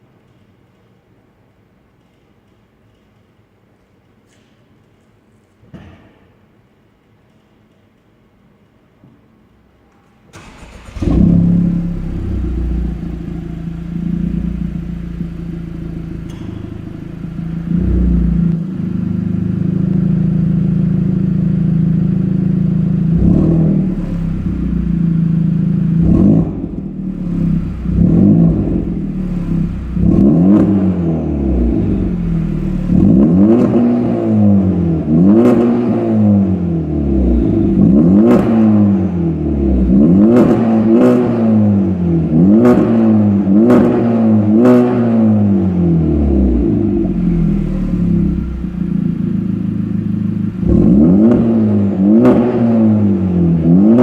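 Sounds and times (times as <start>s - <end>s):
car engine starting and revving: 10.3s - 54.0s.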